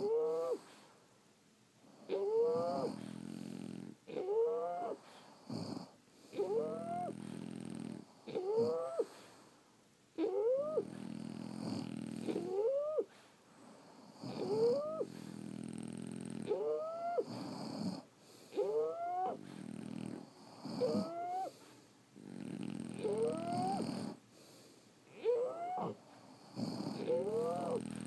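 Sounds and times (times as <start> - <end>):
dog snoring: 0.0 - 0.9, 1.9 - 9.4, 10.2 - 28.0.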